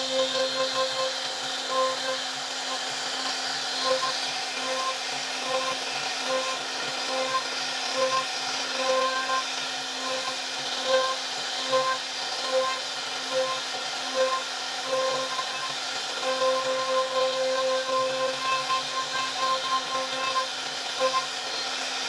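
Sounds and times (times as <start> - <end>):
bit carving wood: 0.0 - 22.0
router spindle whining: 0.0 - 22.0.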